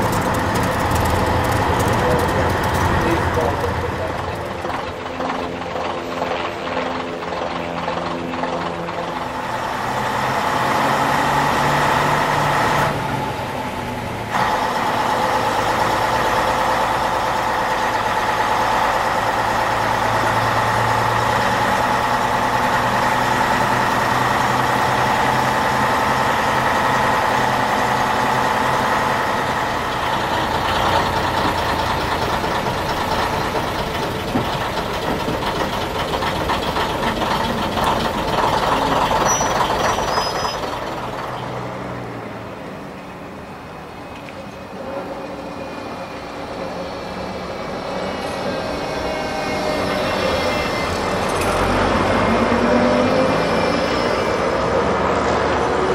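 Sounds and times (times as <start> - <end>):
diesel bus engine running: 0.0 - 55.9.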